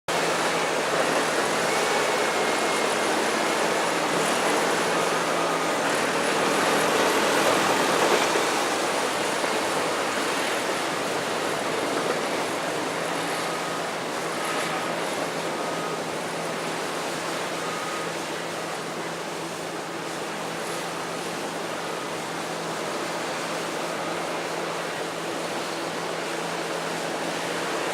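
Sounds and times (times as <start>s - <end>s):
distant bulldozer engine humming: 0.1s - 27.9s.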